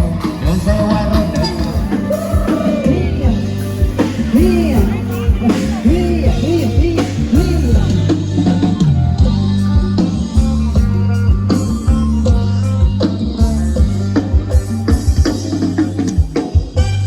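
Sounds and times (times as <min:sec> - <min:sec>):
person singing: 0:00.0 - 0:14.9
band music from sound truck: 0:00.0 - 0:17.0
drum and bass beat: 0:00.0 - 0:17.0.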